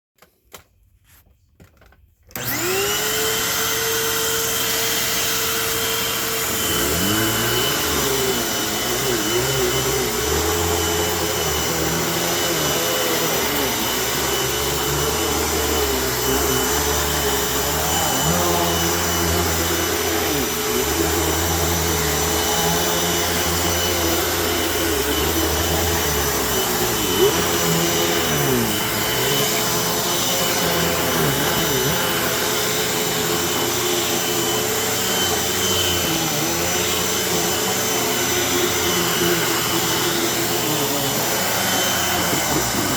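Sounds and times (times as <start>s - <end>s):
vacuum cleaner running on carpet: 2.3s - 42.9s.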